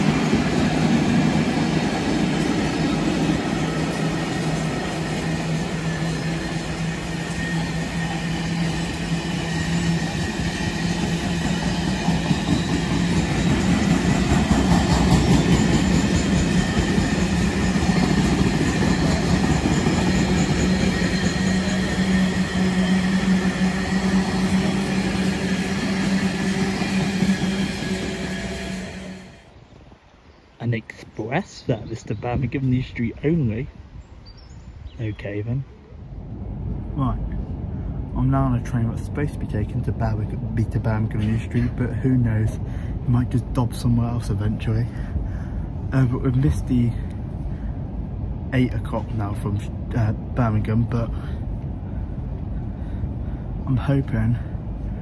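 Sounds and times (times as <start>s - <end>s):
freight train rolling past: 0.0s - 29.6s, 35.9s - 55.0s.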